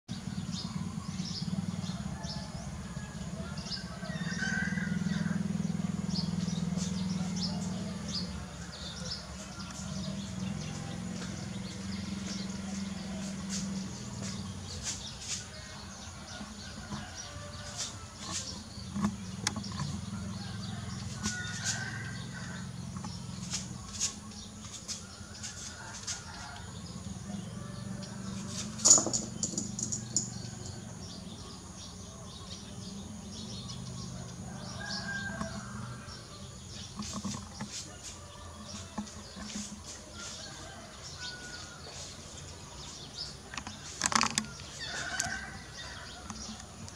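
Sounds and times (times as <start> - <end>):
small birds chirping: 0.1 - 46.9.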